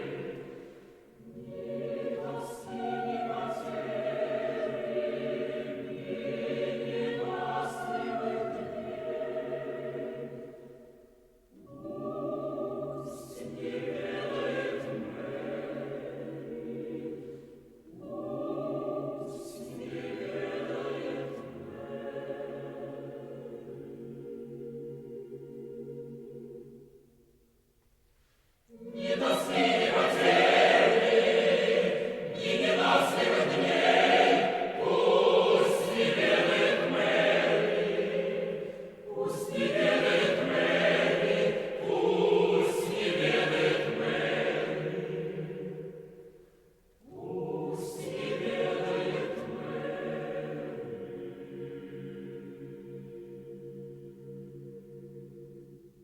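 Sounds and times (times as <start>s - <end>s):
choir singing: 0.0s - 27.4s, 28.6s - 56.0s.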